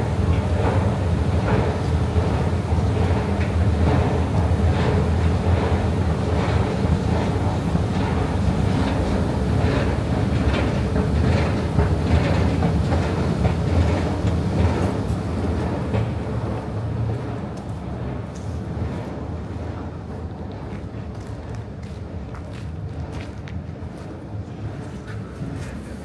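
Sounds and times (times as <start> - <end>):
escalator rumble with clacks: 0.0 - 26.0.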